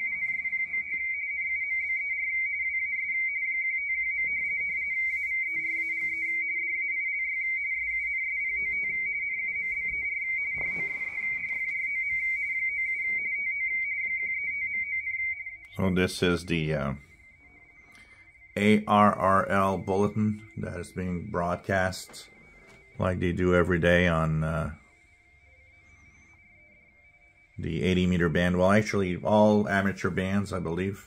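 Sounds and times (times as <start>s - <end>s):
faint radio band noise: 0.0s - 31.0s
radio teletype warble: 0.0s - 31.0s.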